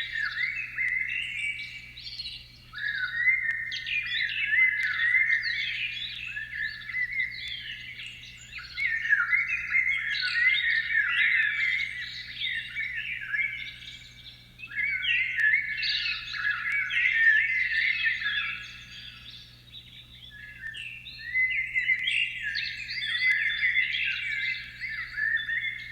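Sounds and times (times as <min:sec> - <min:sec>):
many birds chirping: 0:00.0 - 0:25.9.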